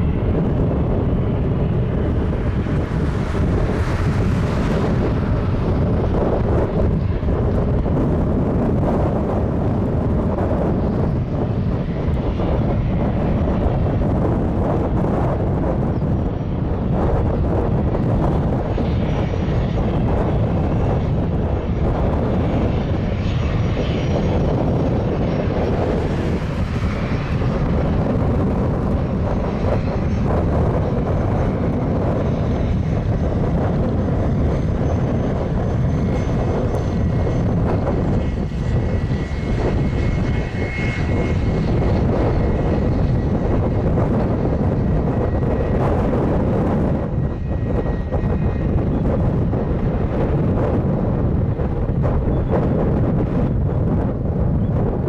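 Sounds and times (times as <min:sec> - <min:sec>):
jet airliner engine and airflow noise: 0:00.0 - 0:55.0.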